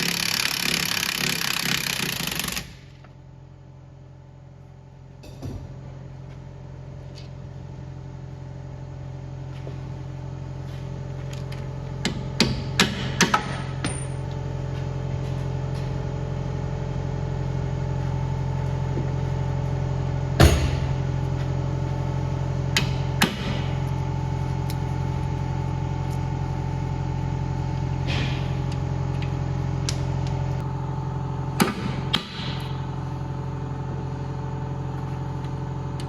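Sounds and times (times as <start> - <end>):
mechanical hum: 0.0 - 36.0.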